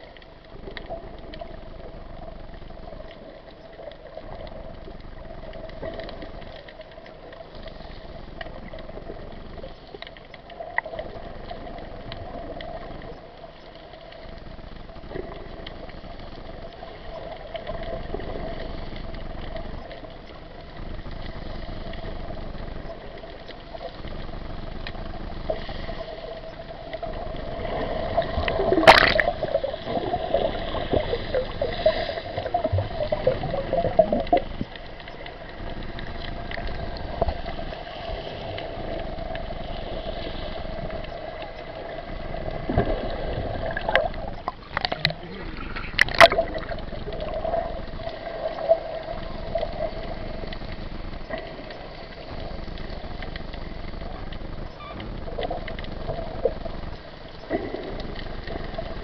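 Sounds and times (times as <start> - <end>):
faint steady hum: 0.0 - 59.0
water sloshing and gurgling: 0.0 - 59.0.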